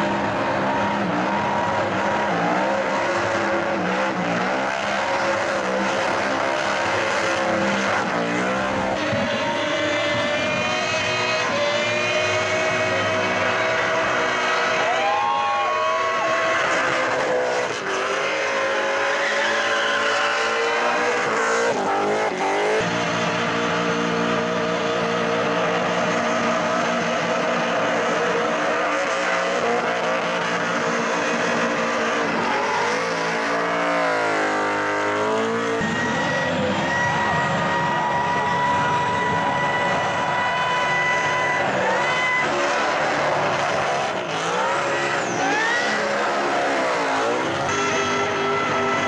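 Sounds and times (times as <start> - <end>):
car engines revving hard: 0.0 - 49.0.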